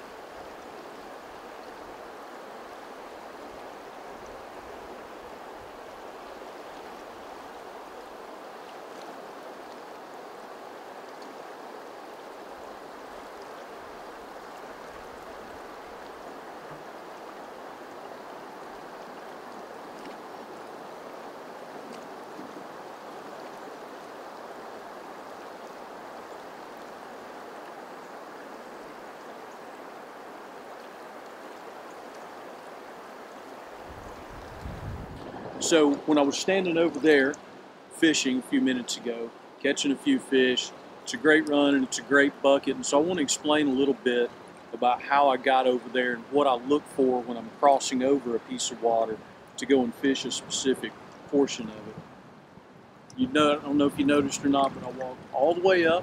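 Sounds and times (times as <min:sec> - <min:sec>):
river running over rocks: 0:00.0 - 0:56.0.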